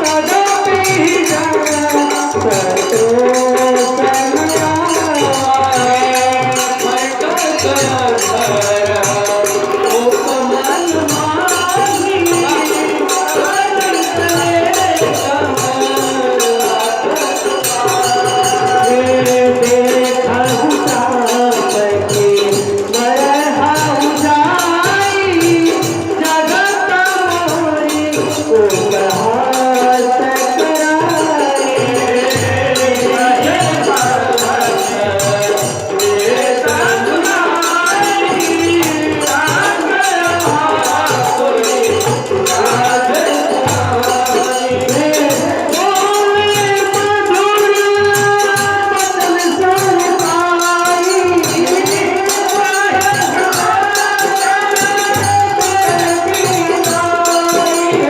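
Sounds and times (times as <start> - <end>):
man singing: 0.0 - 58.0
steady percussion beat: 0.0 - 58.0.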